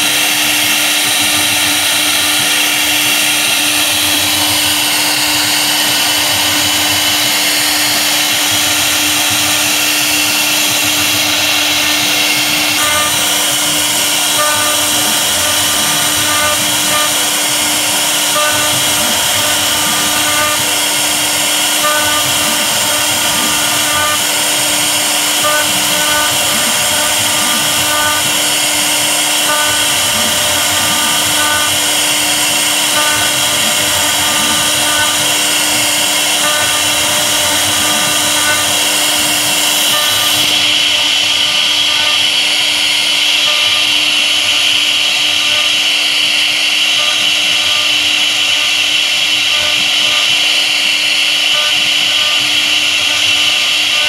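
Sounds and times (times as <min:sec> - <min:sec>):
cnc router spindle whine: 0:00.0 - 0:54.0.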